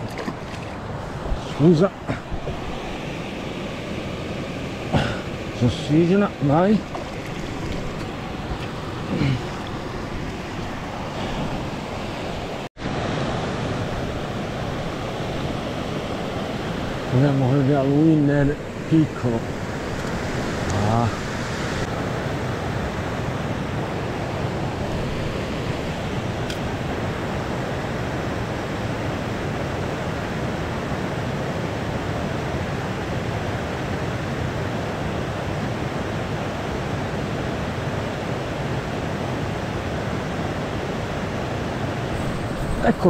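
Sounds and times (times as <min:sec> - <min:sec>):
water rushing over weir: 0:00.0 - 0:43.0.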